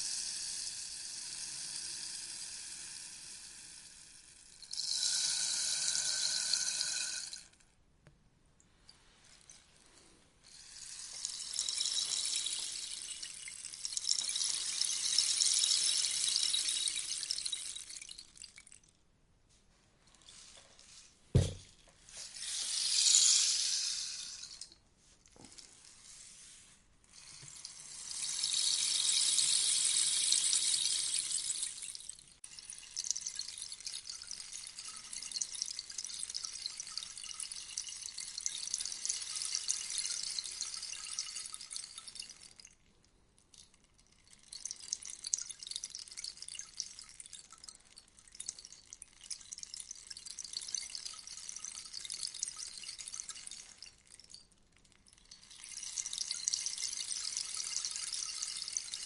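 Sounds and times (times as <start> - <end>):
rainstick beads trickling: 0.0 - 7.6, 8.8 - 19.0, 20.0 - 59.0.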